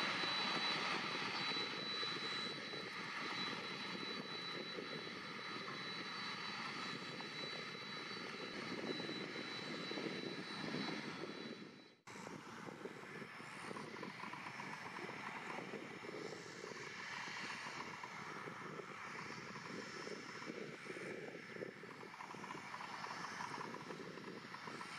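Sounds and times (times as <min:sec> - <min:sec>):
jet engine rush with whine: 0:00.0 - 0:24.9.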